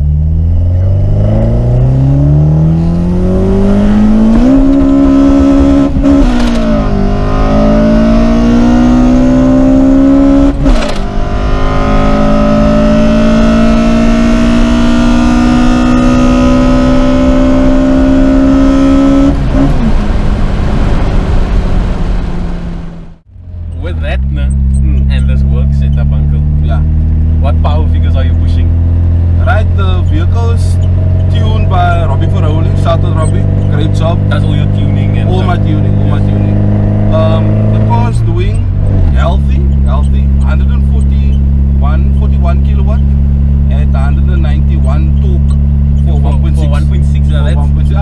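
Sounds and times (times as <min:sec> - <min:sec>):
car engine revving at full throttle: 0:00.0 - 0:48.0.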